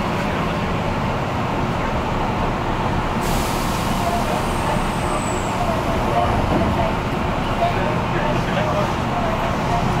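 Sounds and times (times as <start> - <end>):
large vehicle rumbling: 0.0 - 10.0.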